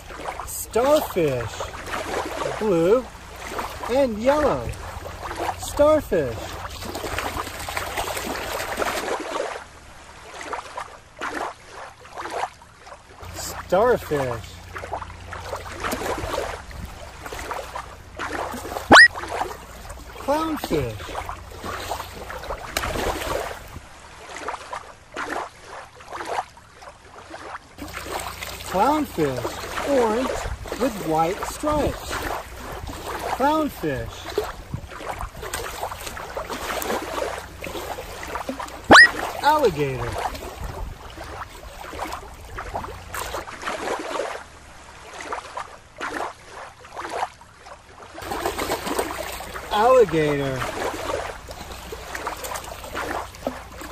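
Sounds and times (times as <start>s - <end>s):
river water sloshing and splashing: 0.0s - 53.9s.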